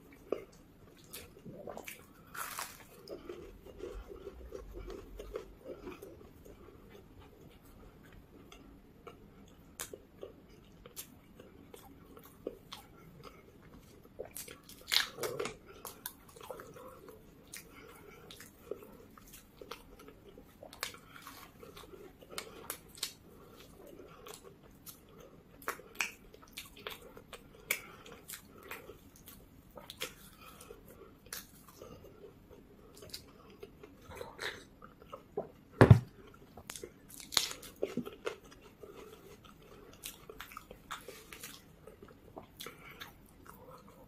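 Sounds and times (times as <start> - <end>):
biting and chewing pastry: 0.0 - 44.0.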